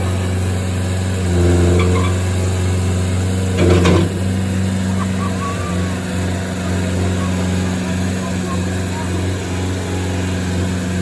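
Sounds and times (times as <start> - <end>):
skid-steer engine running: 0.0 - 11.0.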